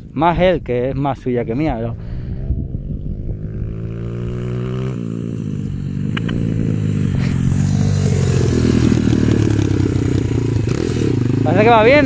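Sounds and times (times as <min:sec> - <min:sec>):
pit bike engine revving: 0:02.2 - 0:12.0.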